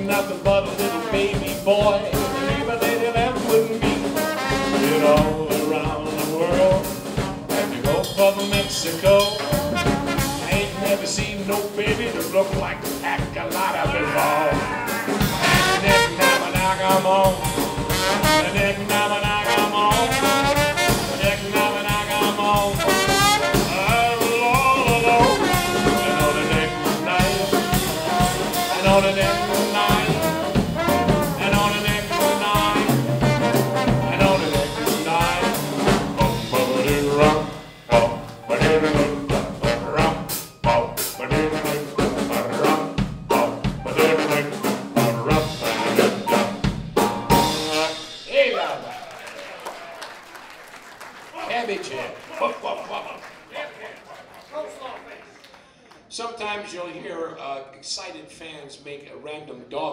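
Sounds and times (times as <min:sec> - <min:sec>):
trombone melody: 0:00.0 - 0:48.3
drum kit: 0:00.0 - 0:49.1
piano: 0:00.0 - 0:49.2.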